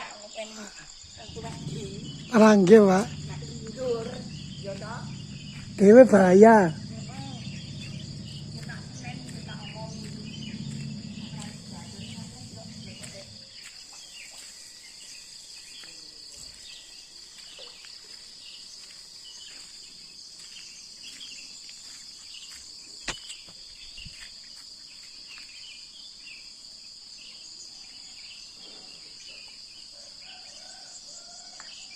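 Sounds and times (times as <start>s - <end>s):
crickets trilling: 0.0s - 31.9s.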